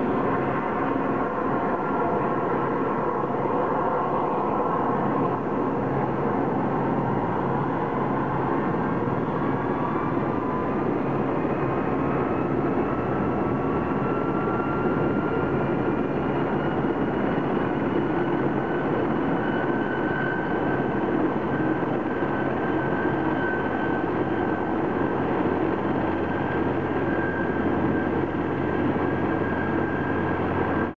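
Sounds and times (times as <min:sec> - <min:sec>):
helicopter turbine whine: 0:00.0 - 0:31.0.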